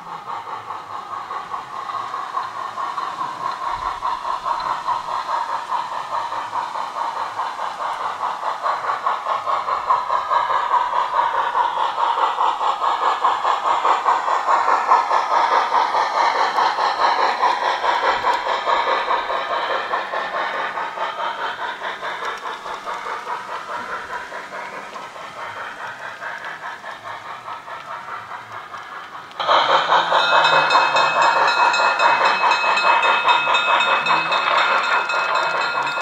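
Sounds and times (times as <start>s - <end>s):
model steam engine chuffing: 0.0s - 36.0s
wheels rolling on track: 0.0s - 36.0s.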